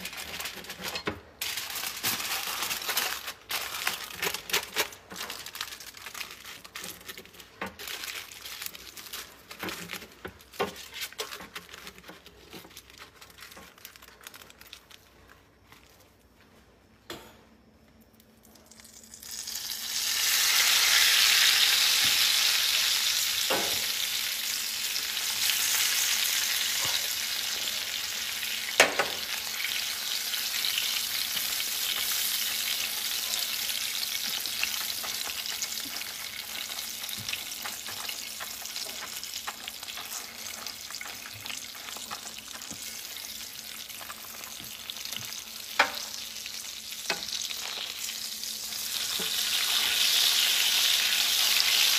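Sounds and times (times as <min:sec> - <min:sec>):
packet sizzling in hot oil: 0:00.0 - 0:15.7, 0:18.5 - 0:51.9.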